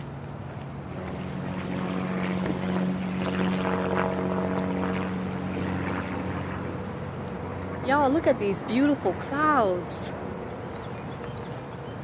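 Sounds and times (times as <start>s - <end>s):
motor droning past: 0.8s - 11.8s.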